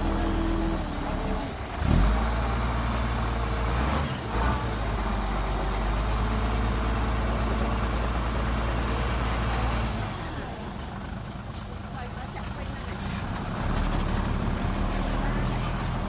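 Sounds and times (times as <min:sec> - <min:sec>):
heavy diesel engine revving: 0:00.0 - 0:16.0.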